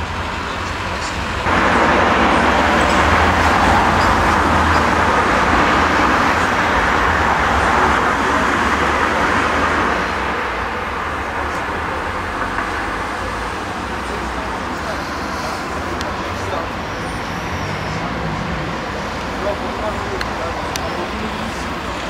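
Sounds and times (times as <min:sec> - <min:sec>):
street traffic rushing past: 0:00.0 - 0:22.0.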